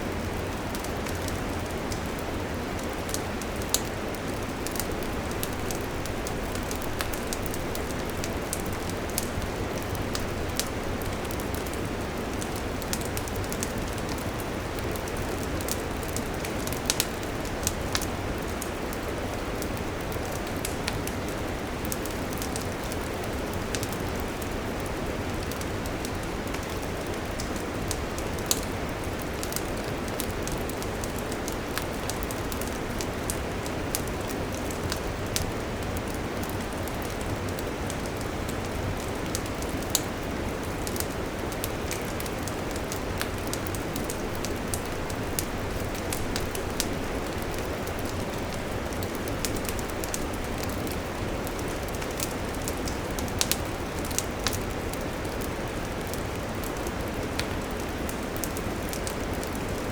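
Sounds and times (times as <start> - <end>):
wood fire crackling and popping: 0.1 - 59.9.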